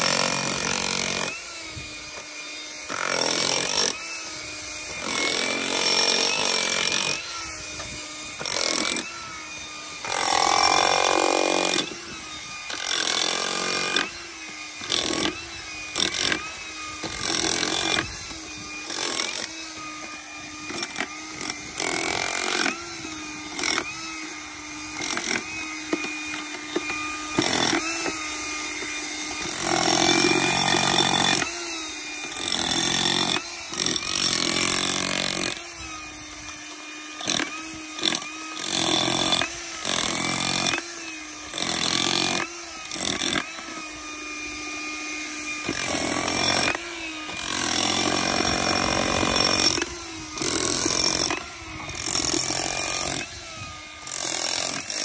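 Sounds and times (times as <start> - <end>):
demolition hammer chiseling concrete: 0.0 - 55.0.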